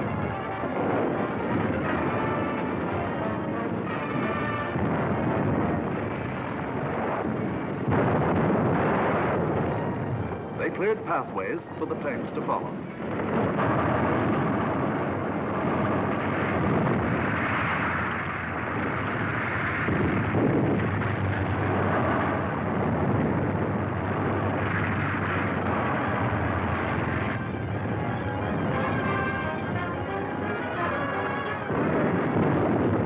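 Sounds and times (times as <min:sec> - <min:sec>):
film music: 0:00.0 - 0:33.0
rumbling explosions: 0:00.0 - 0:33.0.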